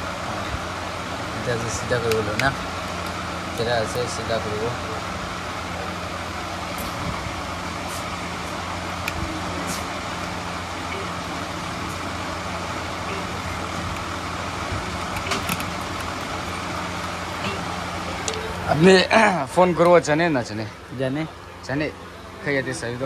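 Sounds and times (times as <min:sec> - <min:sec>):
street traffic engine hum: 0:00.0 - 0:23.0.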